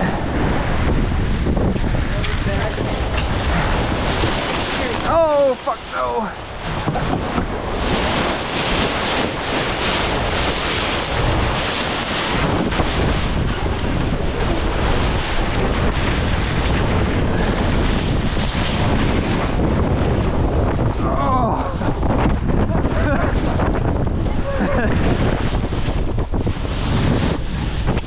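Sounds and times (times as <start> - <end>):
water rushing along boat hull: 0.0 - 28.0
wind buffeting microphone: 0.0 - 28.0.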